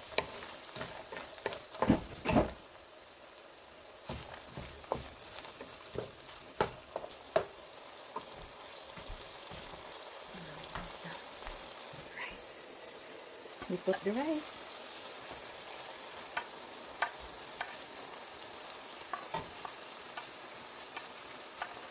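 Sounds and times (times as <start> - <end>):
food sizzling in a frying pan: 0.0 - 21.9.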